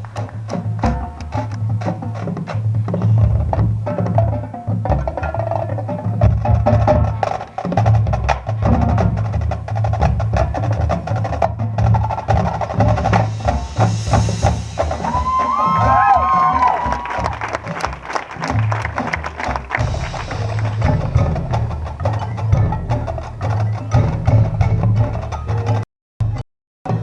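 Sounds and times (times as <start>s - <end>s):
drum strokes: 0.0s - 27.0s
low pitched drum tones: 0.0s - 27.0s.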